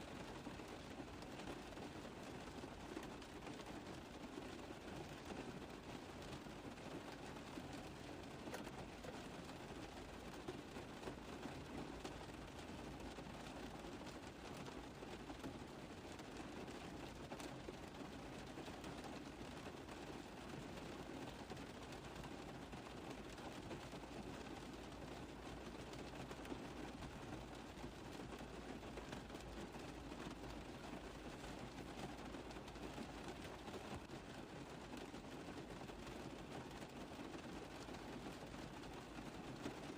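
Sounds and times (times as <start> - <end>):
rain pattering on a car roof: 0.0 - 39.9.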